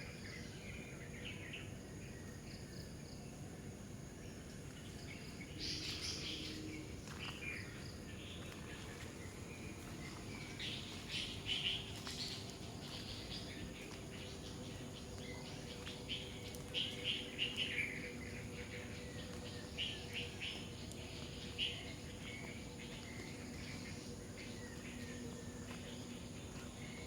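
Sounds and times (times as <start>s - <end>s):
birds chirping: 0.0s - 27.0s
outdoor ambient hiss: 0.0s - 27.0s.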